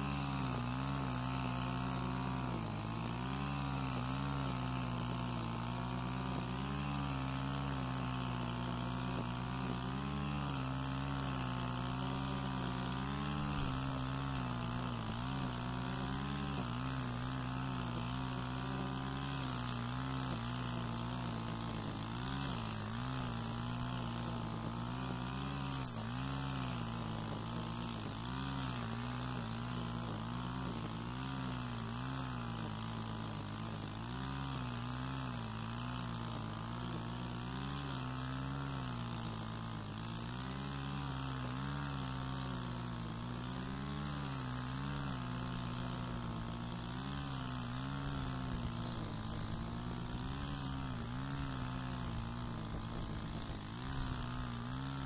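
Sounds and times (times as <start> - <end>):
brushcutter engine at high revs: 0.0 - 55.0
trimmer line hissing through grass: 0.0 - 55.0.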